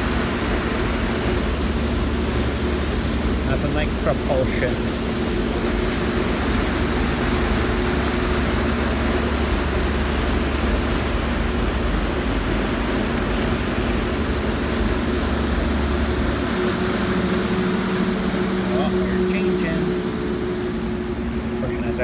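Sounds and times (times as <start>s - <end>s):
ferry engines droning: 0.0s - 22.0s
propeller churned water rushing: 0.0s - 22.0s.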